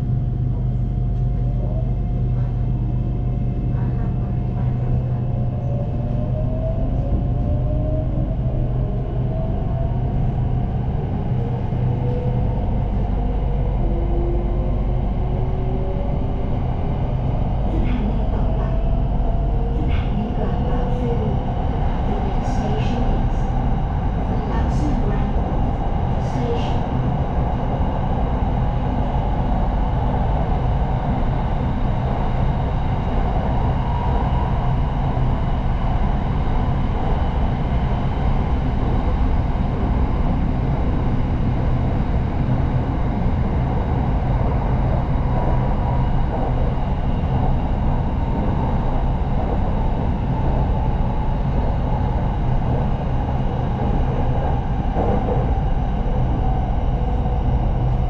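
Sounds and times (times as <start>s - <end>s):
electric train rumble: 0.0s - 58.0s.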